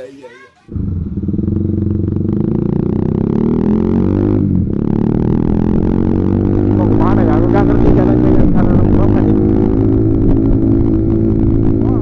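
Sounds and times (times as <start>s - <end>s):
motorcycle engine accelerating: 0.7s - 12.0s.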